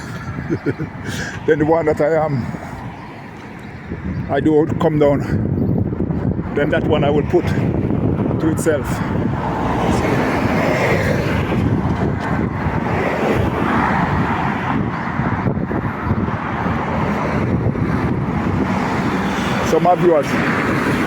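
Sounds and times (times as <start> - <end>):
road traffic: 0.0 - 21.0
wind on microphone: 0.0 - 21.0.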